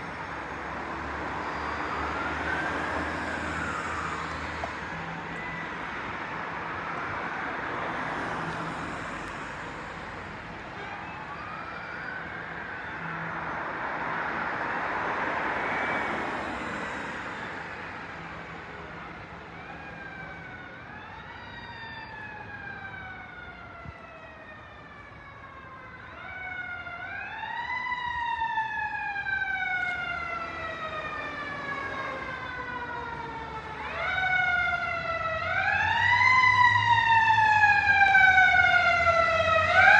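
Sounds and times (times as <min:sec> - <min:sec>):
emergency vehicle siren wailing: 0:00.0 - 0:39.9
street traffic noise: 0:00.0 - 0:39.9.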